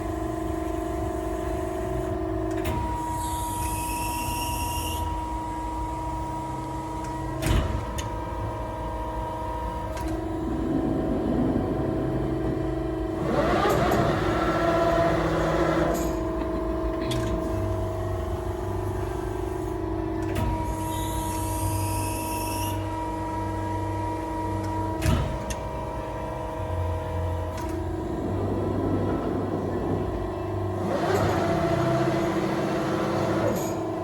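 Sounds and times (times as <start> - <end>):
machine whine: 0.0 - 34.0
machine humming: 5.0 - 34.0.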